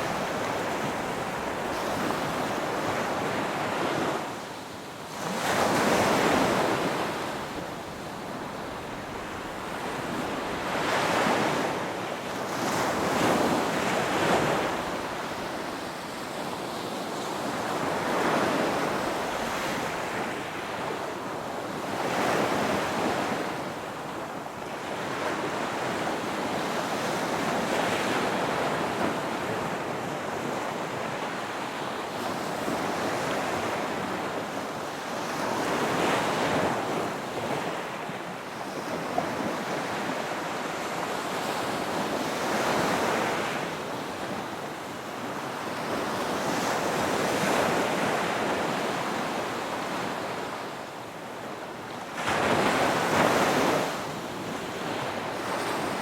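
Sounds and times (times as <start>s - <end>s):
waves washing in and drawing back: 0.0s - 56.0s
wind: 0.0s - 56.0s.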